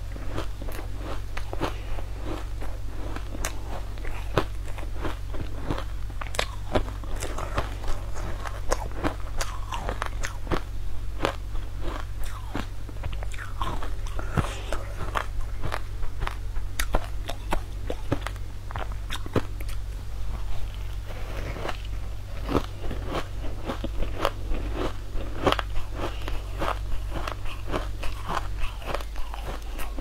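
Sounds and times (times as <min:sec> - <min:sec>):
steady low hum: 0:00.0 - 0:30.0
crunchy sweet being chewed: 0:00.1 - 0:30.0.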